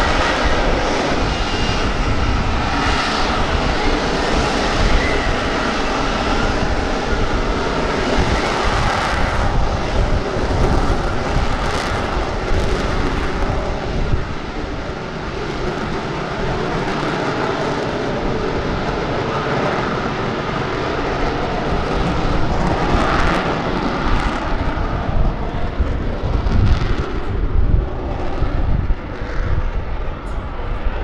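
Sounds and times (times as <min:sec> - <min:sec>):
jet engine roar: 0:00.0 - 0:31.0
low rumbling surges: 0:00.0 - 0:31.0.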